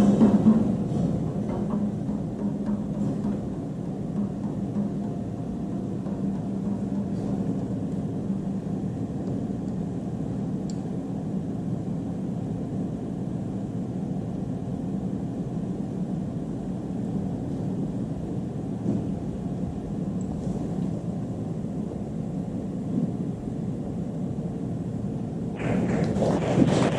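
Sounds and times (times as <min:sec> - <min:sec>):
low rumbling noise: 0:00.0 - 0:26.9.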